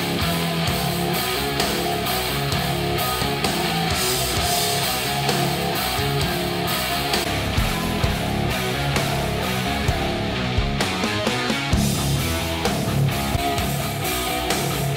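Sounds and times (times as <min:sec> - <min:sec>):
song through studio monitors: 0:00.0 - 0:14.9.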